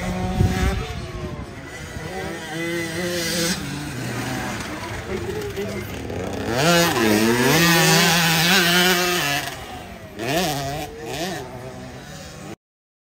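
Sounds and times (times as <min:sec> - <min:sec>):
motocross bike engine revving: 0:00.0 - 0:12.6.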